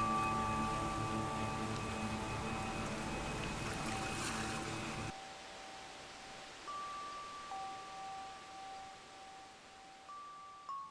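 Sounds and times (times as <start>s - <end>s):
faint steady hiss: 0.0s - 10.9s
soft chime tones: 0.0s - 10.9s.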